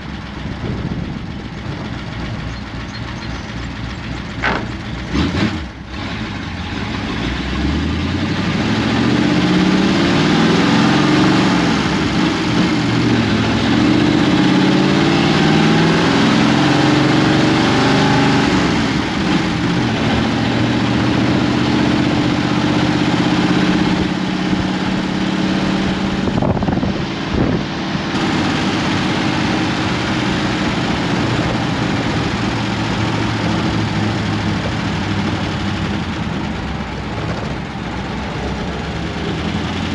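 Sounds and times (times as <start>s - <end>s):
car engine through straight pipes: 0.0s - 39.9s.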